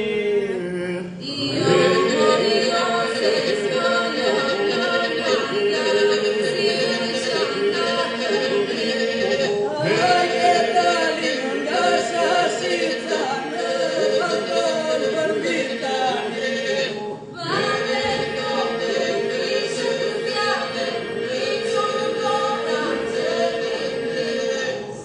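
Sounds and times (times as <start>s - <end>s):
group singing a cappella: 0.0s - 25.0s.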